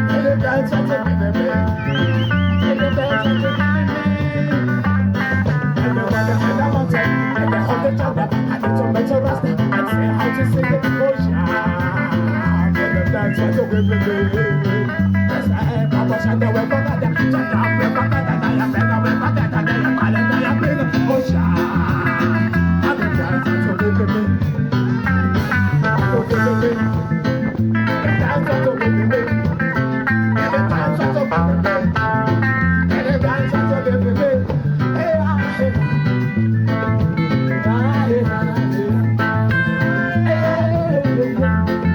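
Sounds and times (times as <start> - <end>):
guitar playing: 0.0 - 41.9
repeating bass line: 0.0 - 41.9.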